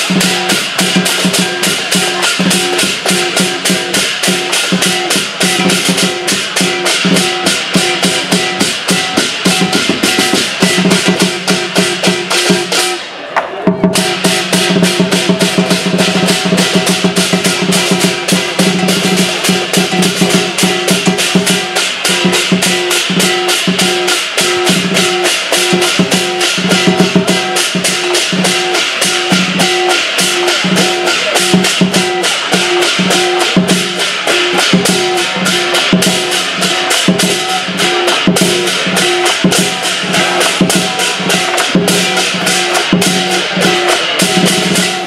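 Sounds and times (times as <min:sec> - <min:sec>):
gong beating: 0:00.0 - 0:13.0, 0:13.9 - 0:45.0
big drum beating: 0:00.0 - 0:45.0
cymbals clashing: 0:00.0 - 0:45.0.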